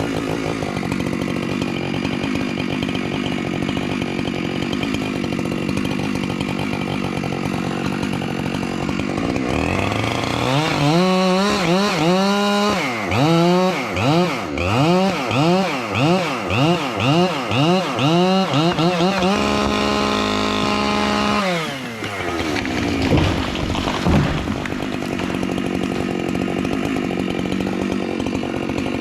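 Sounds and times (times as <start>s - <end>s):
chainsaw running and revving: 0.0s - 29.0s.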